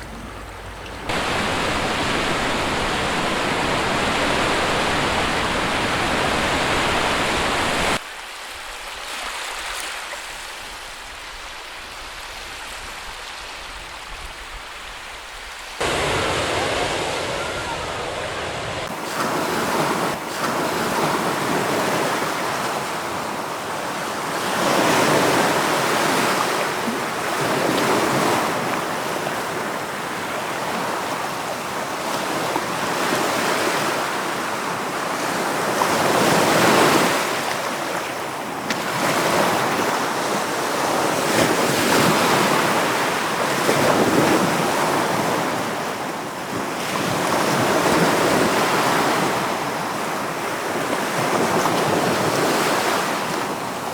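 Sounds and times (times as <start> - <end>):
sea waves breaking on beach: 1.0 - 53.9.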